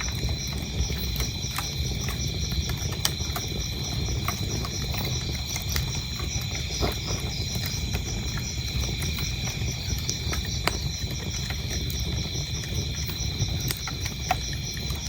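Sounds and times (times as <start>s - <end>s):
crickets chirping: 0.0s - 15.0s
wood fire crackling: 0.0s - 15.0s.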